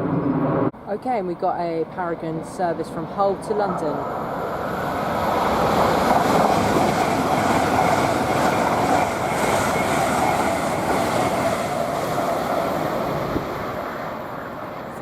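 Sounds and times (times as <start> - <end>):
train rolling through station: 0.0 - 15.0.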